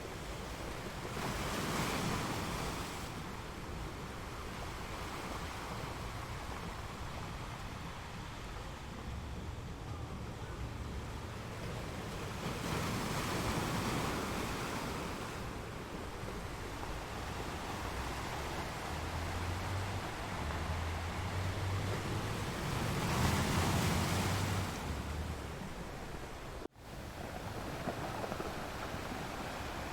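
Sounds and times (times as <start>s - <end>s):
sea waves breaking against rocks: 0.0s - 8.0s, 11.3s - 29.9s.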